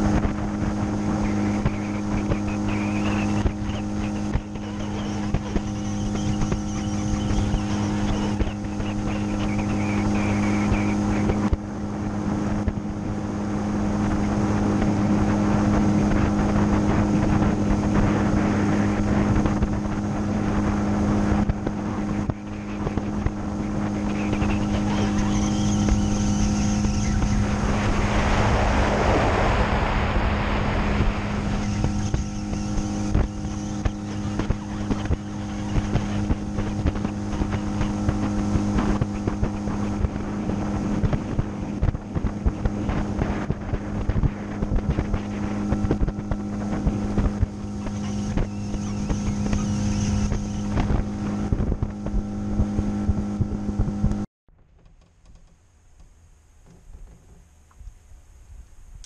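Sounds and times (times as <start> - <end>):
wind buffeting microphone: 0.0 - 54.3
outboard motor running: 0.0 - 57.9.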